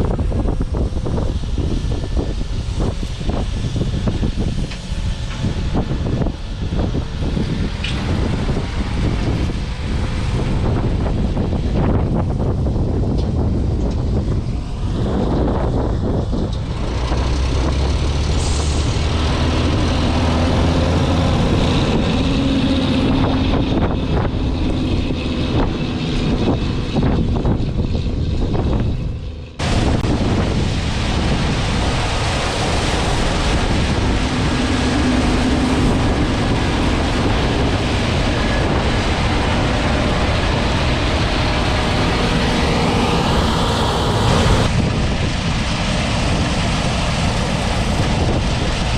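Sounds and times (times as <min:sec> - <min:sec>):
heavy farm machinery engines: 0:00.0 - 0:48.9
wind noise on microphone: 0:00.0 - 0:48.9.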